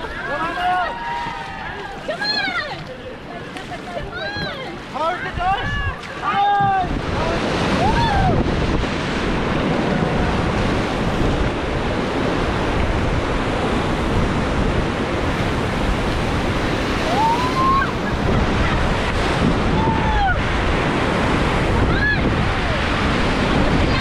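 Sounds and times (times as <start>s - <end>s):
whitewater rushing and splashing: 0.0s - 24.0s
wind buffeting microphone: 0.0s - 24.0s.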